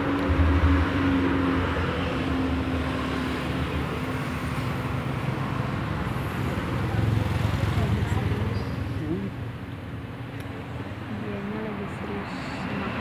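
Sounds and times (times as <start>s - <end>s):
general traffic rumble: 0.0s - 13.0s
vehicle engine hum: 0.0s - 13.0s.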